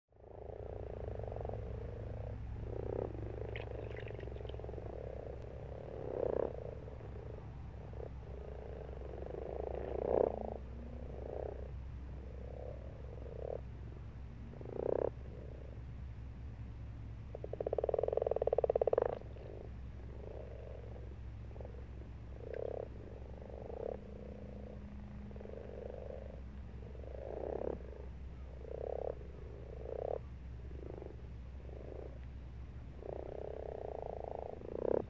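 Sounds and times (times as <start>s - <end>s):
steady low hum: 0.1s - 35.0s
frogs croaking: 0.2s - 35.0s
louder nearer frog croaks: 0.2s - 35.0s.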